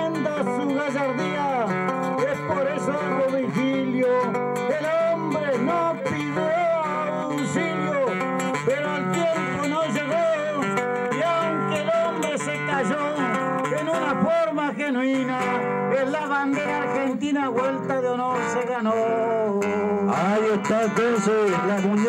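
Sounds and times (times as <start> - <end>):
strummed acoustic guitar music: 0.0 - 22.0.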